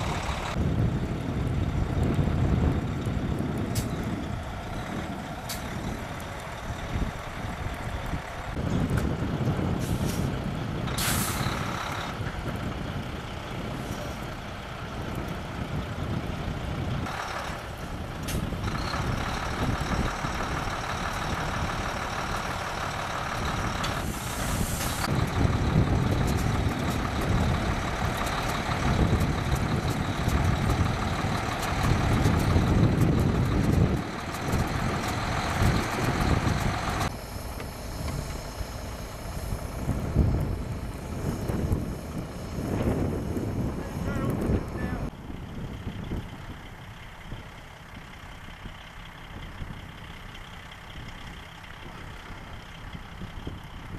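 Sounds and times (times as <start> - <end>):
trucks driving through snow: 0.0 - 53.9.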